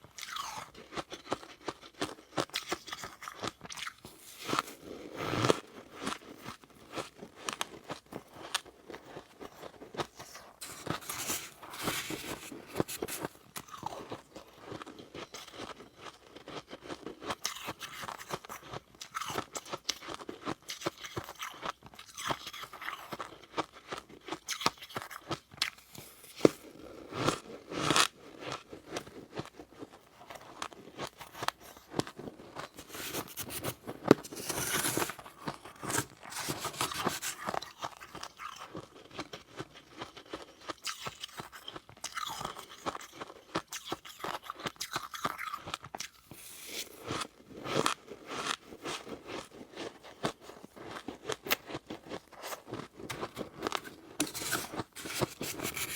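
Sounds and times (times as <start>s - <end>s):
crunching and chewing frost: 0.0s - 55.9s.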